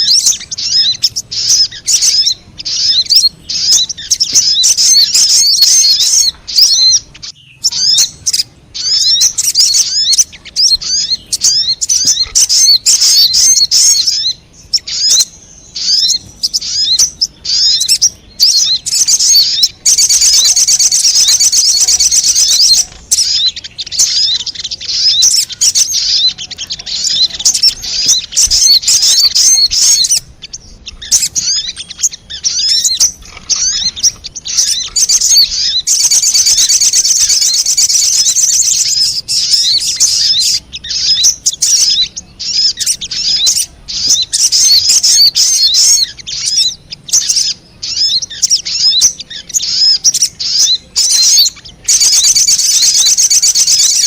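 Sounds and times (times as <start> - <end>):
rapid high bird chirping: 0.0 - 54.0.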